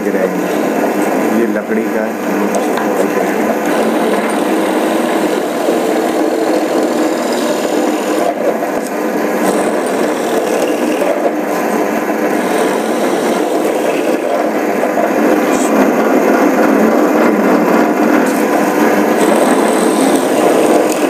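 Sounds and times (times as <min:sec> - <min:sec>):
bench drill boring into wood: 0:00.4 - 0:21.0.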